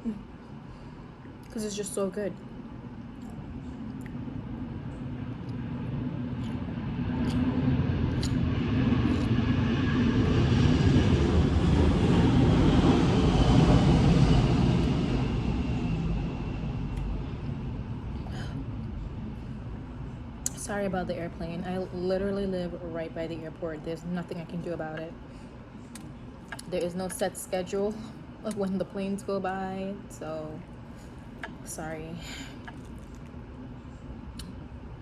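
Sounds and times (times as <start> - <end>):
airplane rumble: 0.0 - 35.0.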